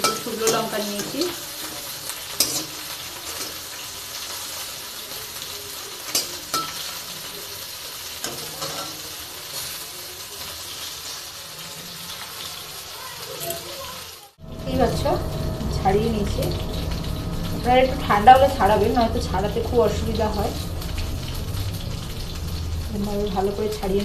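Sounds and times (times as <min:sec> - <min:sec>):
chillies sizzling in a pan: 0:00.0 - 0:24.0.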